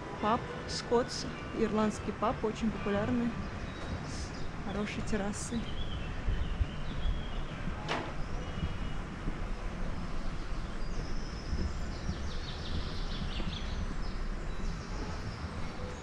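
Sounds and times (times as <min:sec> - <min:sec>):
birds chirping: 0:00.2 - 0:16.0
steady low rumble: 0:01.2 - 0:16.0.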